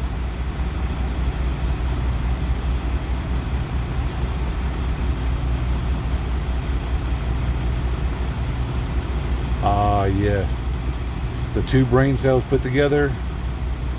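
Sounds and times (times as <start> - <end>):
vehicle engine idling: 0.0 - 13.9.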